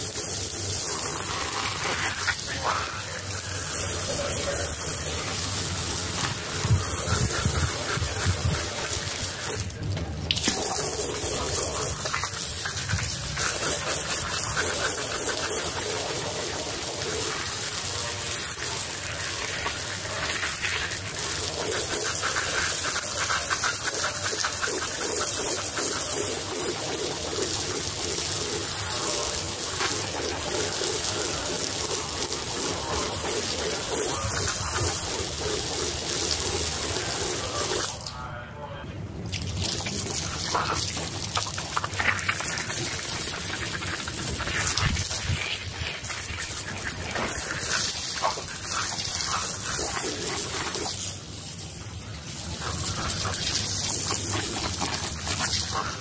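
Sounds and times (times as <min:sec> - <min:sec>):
water jet spraying onto rug: 0:00.0 - 0:38.1, 0:39.3 - 0:56.0.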